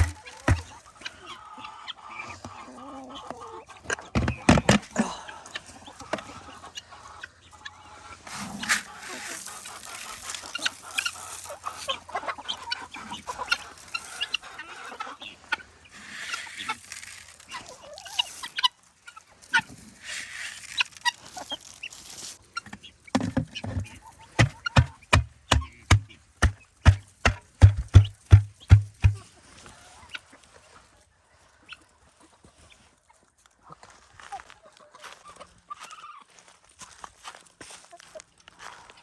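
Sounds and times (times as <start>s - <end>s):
chickens clucking: 0.0s - 36.4s.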